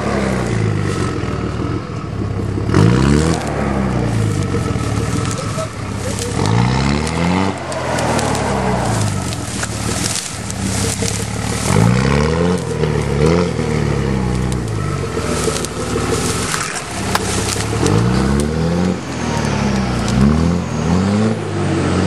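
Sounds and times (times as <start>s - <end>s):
diesel truck engine revving: 0.0s - 22.0s
sharp clicks and crackles: 1.9s - 20.6s
mud flinging: 2.8s - 22.0s.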